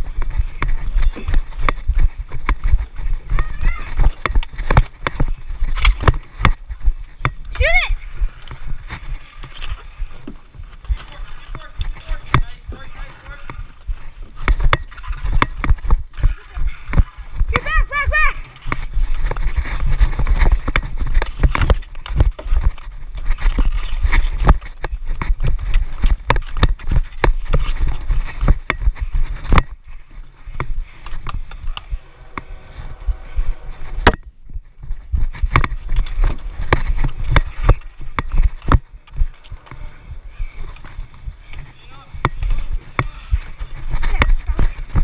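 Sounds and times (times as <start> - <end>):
wind rumble on microphone: 0.0 - 45.0.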